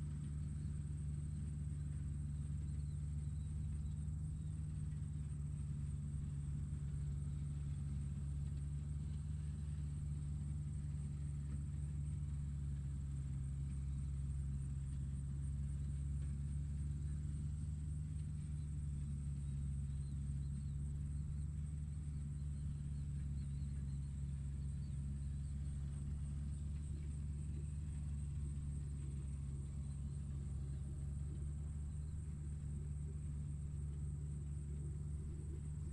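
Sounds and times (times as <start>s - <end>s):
tractor engine running steadily: 0.0s - 35.9s.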